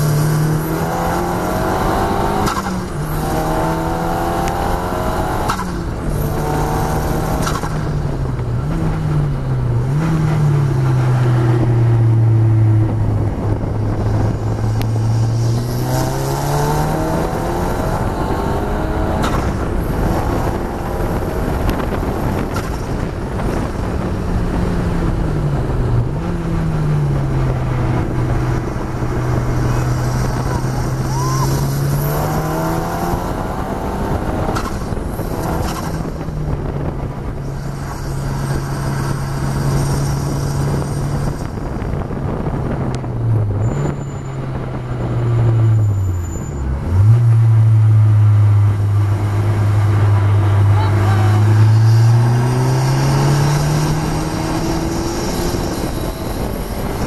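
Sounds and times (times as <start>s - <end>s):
car engine revving: 0.0s - 57.0s
wind and road noise: 0.0s - 57.0s.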